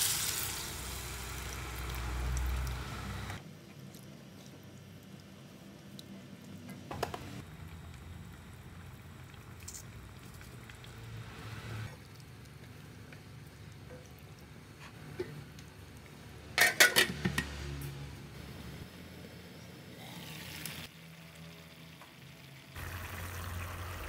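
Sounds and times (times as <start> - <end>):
broth bubbling in a pan: 0.0 - 6.5, 7.4 - 16.6, 19.9 - 24.0.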